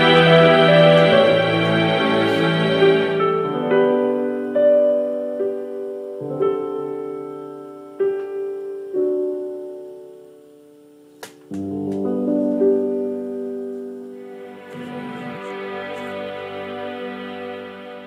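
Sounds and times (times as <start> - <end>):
slow solo piano: 0.0 - 16.2.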